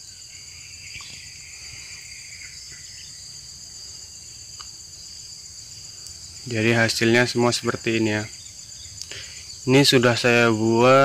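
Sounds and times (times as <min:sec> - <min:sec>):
shrill insect chorus: 0:00.0 - 0:11.0.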